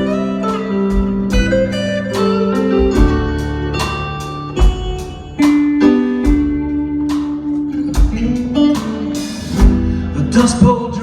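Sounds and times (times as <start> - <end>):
keyboard chords: 0.0 - 10.6
guitar chords: 0.0 - 11.0
drum beat: 0.8 - 10.6.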